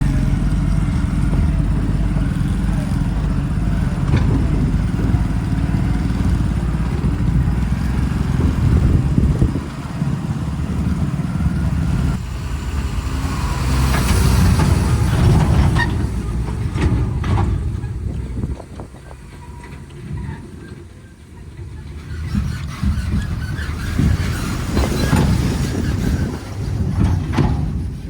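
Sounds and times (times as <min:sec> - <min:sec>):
heavy diesel engine under load: 0:00.0 - 0:28.0.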